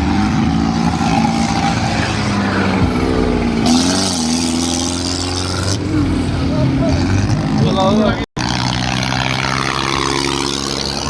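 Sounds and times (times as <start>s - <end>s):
tractor engine revving: 0.0s - 11.0s.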